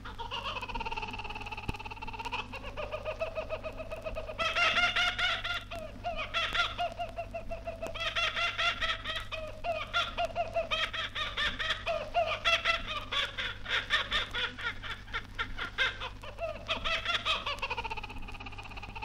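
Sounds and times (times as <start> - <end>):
kookaburra cackling: 0.0 - 19.0
vinyl surface crackle: 0.0 - 19.0.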